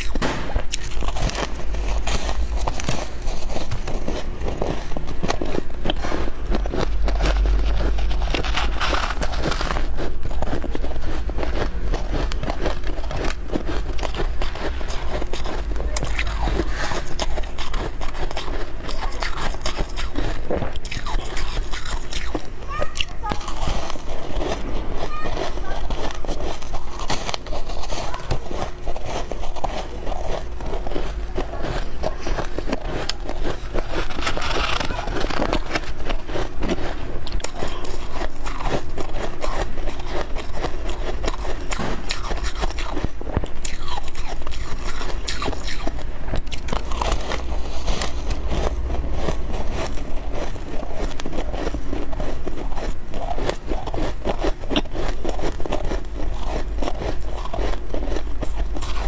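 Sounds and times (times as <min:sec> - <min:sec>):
person chewing frost crunching: 0:00.0 - 0:59.0.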